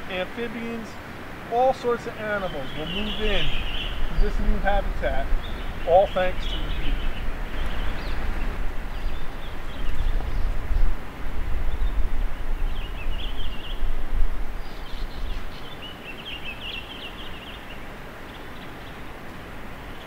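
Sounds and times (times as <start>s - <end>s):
small birds chirping: 0.0s - 11.0s, 11.6s - 20.0s
outdoor background noise: 0.0s - 20.0s
wind rumbling on microphone: 0.9s - 20.0s.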